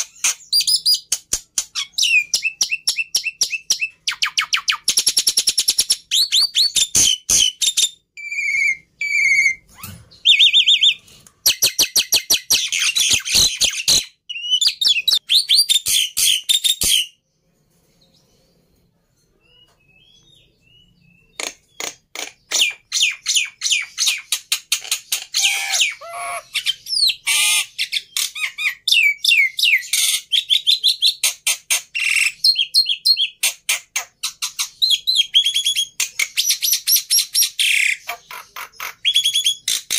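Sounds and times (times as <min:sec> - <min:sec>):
starling singing: 0:00.0 - 0:17.2, 0:19.4 - 0:39.9.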